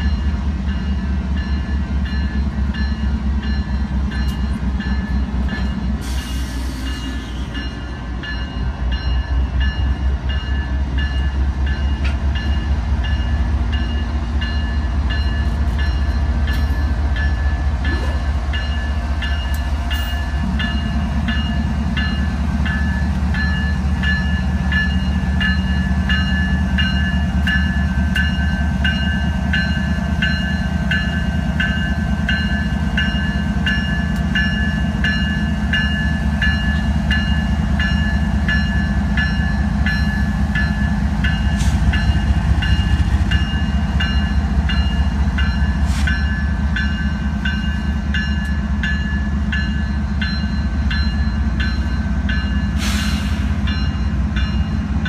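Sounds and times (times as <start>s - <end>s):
crossing bell ringing: 0.0s - 55.0s
diesel locomotives rumbling: 0.0s - 55.0s.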